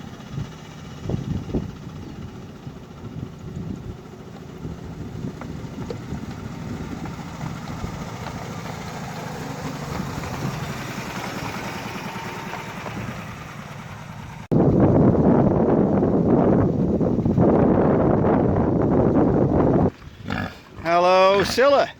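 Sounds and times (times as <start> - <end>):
petrol engine rumbling: 0.0 - 21.9
wind buffeting microphone: 0.0 - 21.9.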